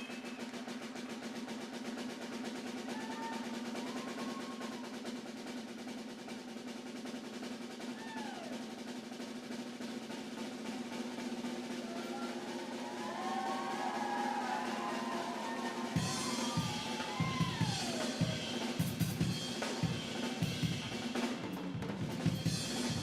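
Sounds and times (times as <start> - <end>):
snare drum roll: 0.0 - 23.0.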